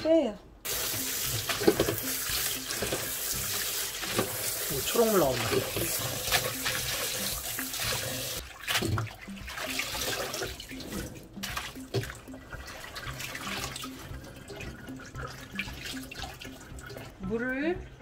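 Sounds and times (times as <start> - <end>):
tap water running into metal bowl: 0.7 - 17.7
water splashing and sloshing: 0.7 - 18.0.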